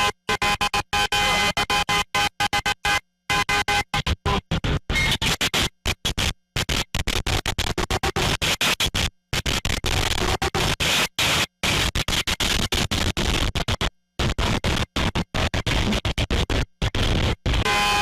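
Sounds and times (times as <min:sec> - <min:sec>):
harsh stuttering static hiss: 0:00.0 - 0:18.0.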